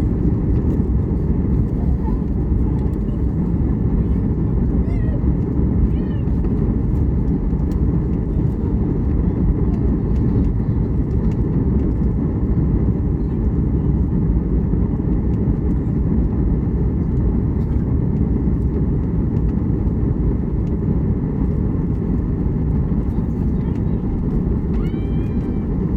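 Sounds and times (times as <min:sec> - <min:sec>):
airliner cabin engine rumble: 0:00.0 - 0:25.9.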